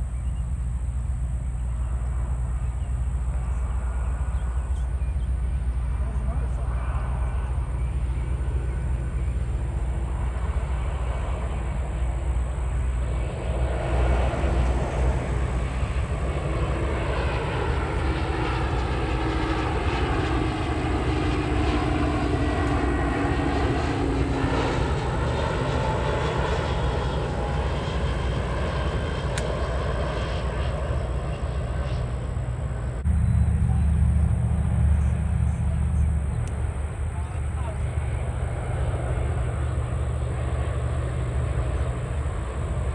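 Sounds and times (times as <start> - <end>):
airliner passing low overhead: 0.0 - 42.9.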